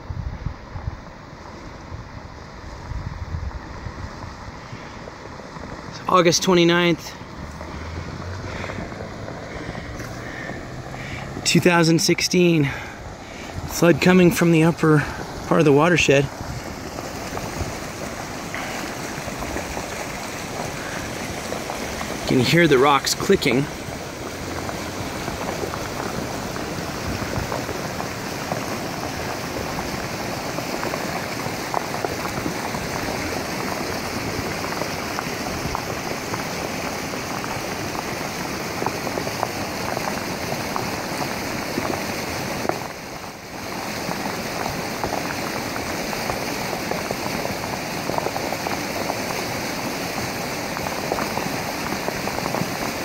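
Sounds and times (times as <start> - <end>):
flood water rushing: 0.0 - 53.0.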